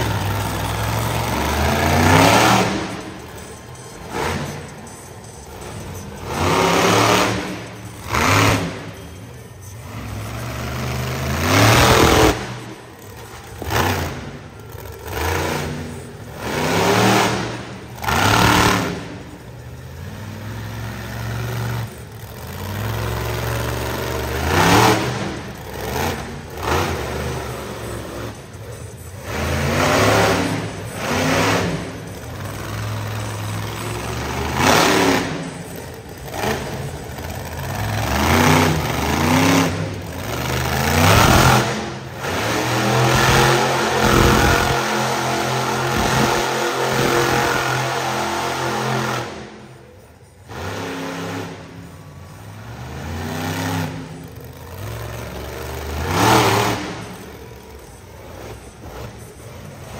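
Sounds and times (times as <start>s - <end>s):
truck engine revving hard: 0.0s - 59.9s.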